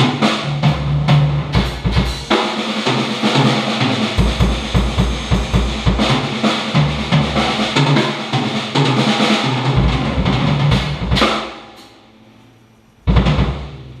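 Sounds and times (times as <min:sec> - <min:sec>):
drum kit playing a beat: 0:00.0 - 0:11.9, 0:13.1 - 0:14.0.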